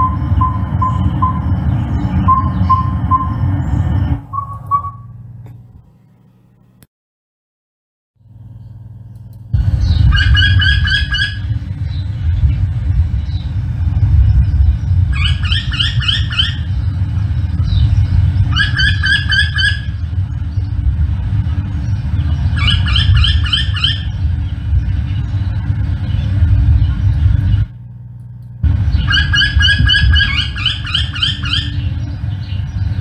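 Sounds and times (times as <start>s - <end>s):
bird calling rising notes: 0.0s - 5.2s, 9.6s - 20.9s, 21.7s - 27.7s, 28.6s - 33.0s
low rumble: 0.0s - 5.9s, 9.5s - 33.0s.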